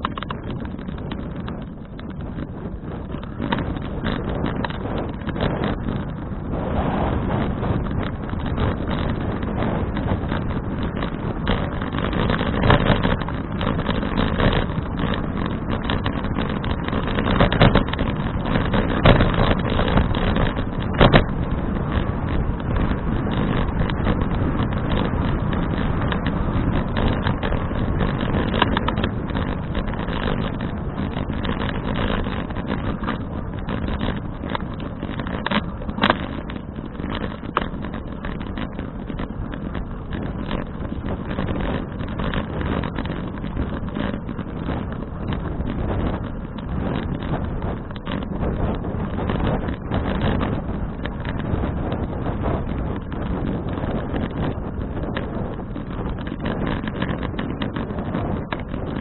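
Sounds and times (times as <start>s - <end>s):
bicycle road noise: 0.0s - 59.0s
wind rushing on microphone: 0.0s - 59.0s.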